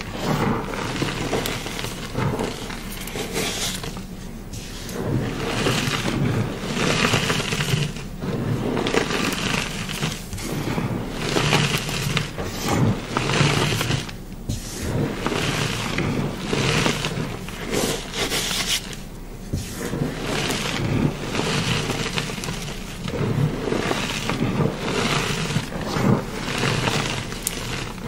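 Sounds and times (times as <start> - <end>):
chalk crunching by hand: 0.0 - 28.0.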